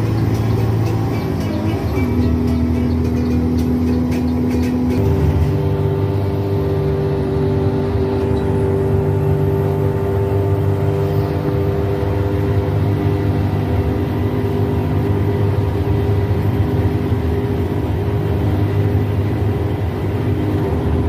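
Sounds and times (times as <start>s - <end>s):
bus engine humming: 0.0s - 21.0s.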